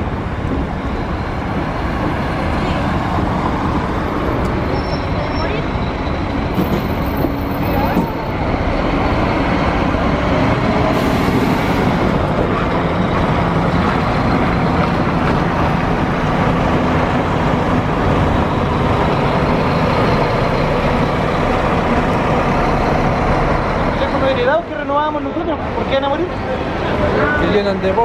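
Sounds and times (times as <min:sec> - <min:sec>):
bus diesel engine drone: 0:00.0 - 0:28.0
road noise: 0:00.0 - 0:28.0.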